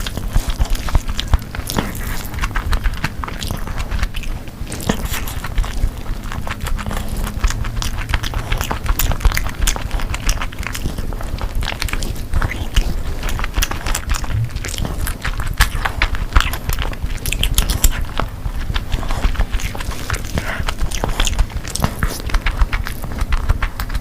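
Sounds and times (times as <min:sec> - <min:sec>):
person chewing food: 0:00.0 - 0:24.0
wet mouth clicks and smacks: 0:00.0 - 0:24.0.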